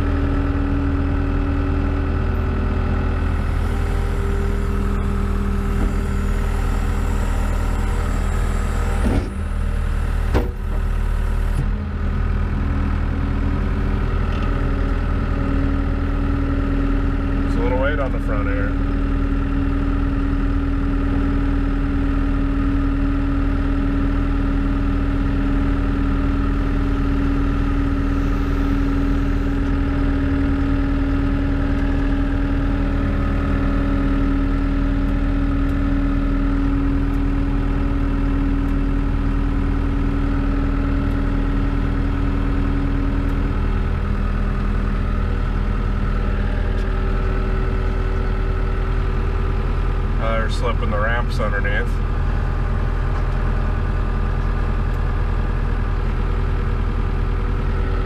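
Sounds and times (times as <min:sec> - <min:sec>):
tractor engine running from cab: 0:00.0 - 0:58.0.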